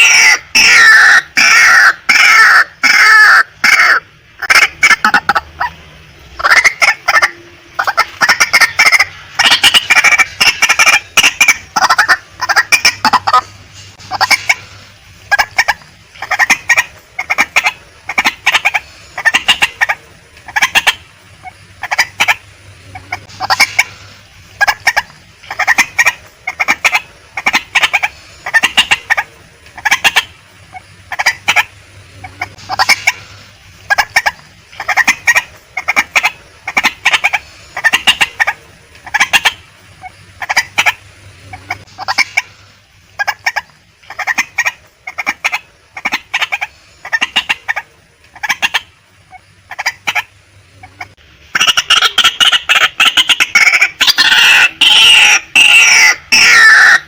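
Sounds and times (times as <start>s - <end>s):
waterhen clucking calls: 0.0s - 57.0s.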